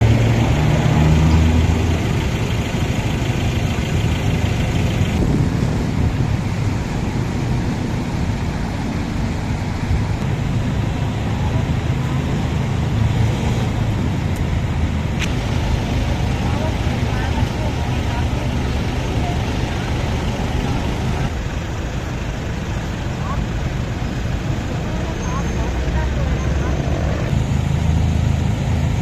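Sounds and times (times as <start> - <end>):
road hiss: 0.0 - 29.0
vehicle engine rumble: 0.0 - 29.0.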